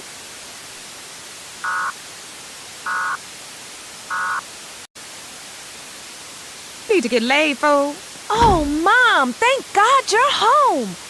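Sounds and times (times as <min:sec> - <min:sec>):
static hiss: 0:00.0 - 0:11.0.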